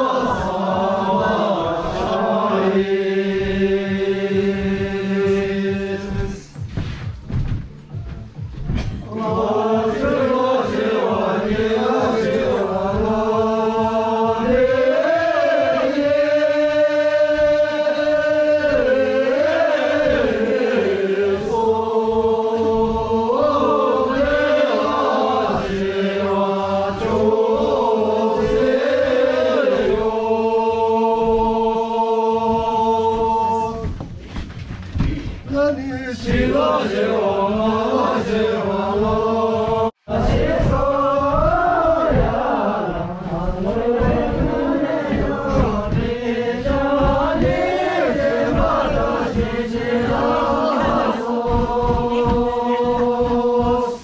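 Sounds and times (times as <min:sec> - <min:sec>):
group singing in unison: 0:00.0 - 0:54.0.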